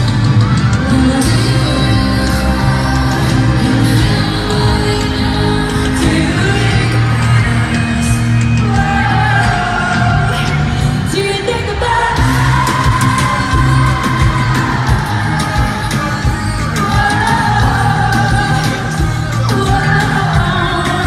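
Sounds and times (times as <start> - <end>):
loud band with steady bass: 0.0 - 21.0
female vocal group singing: 0.8 - 21.0.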